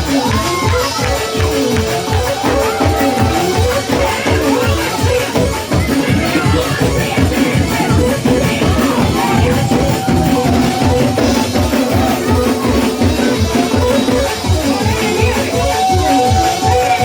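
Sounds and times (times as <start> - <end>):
held keyboard or organ notes: 0.0 - 16.9
drum kit fast beat: 0.0 - 17.0.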